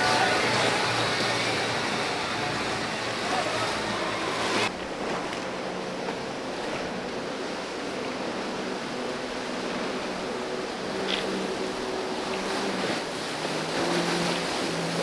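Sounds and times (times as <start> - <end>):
wash of waves: 0.0 - 15.0
water churning from boat wakes: 0.0 - 15.0.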